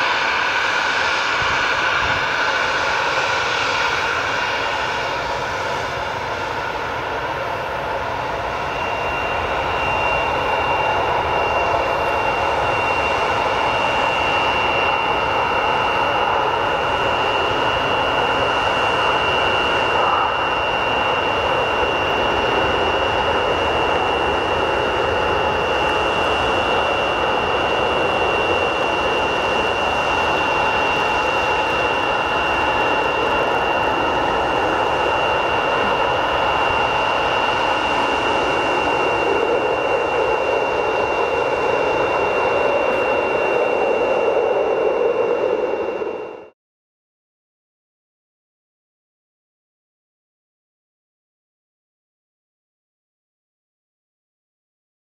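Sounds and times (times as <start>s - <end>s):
jet engines roaring with whine: 0.0s - 46.6s.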